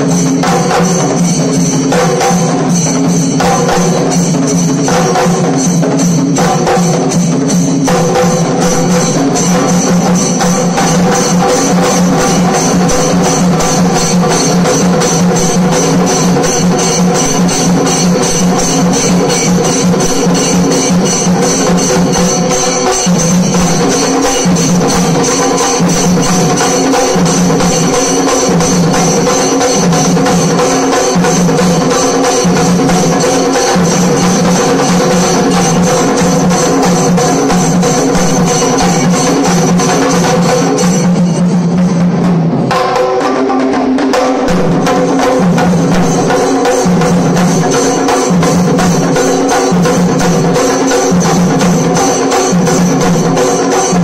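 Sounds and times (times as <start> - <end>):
chenda drums beaten with sticks: 0.0 - 54.0.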